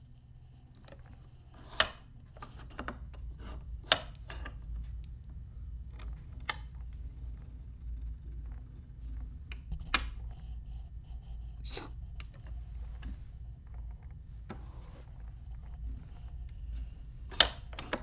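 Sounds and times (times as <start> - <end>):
faint low rumble: 0.0 - 18.0.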